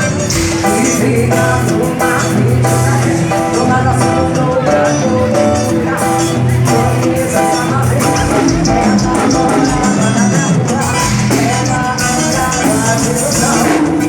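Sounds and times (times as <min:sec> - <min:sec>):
band playing music: 0:00.0 - 0:14.0.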